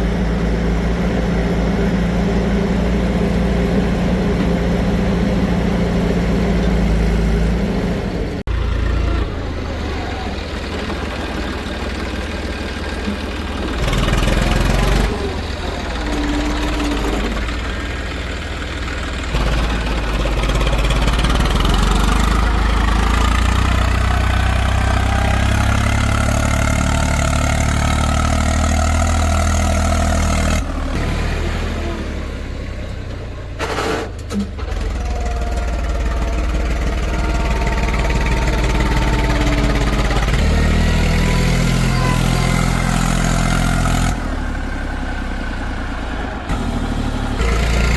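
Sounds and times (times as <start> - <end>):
heavy diesel machinery engines: 0.0 - 47.9.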